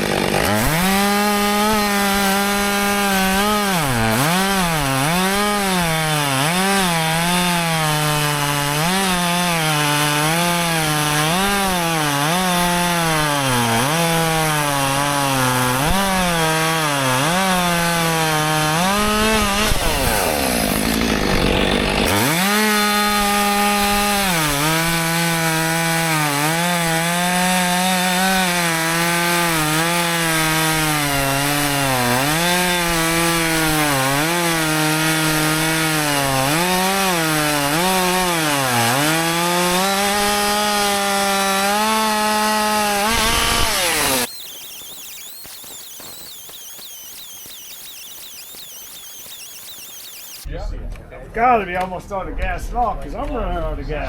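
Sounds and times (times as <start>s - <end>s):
chainsaw cutting wood: 0.0s - 50.5s.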